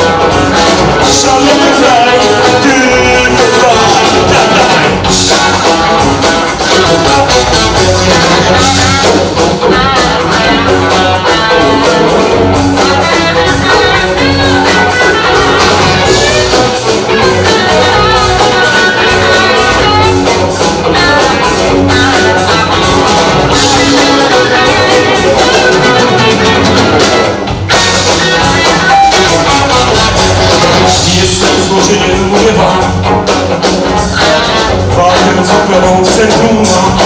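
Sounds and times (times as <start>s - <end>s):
bass guitar: 0.0s - 37.0s
drum kit beat: 0.0s - 37.0s
electric guitar lead: 0.0s - 37.0s.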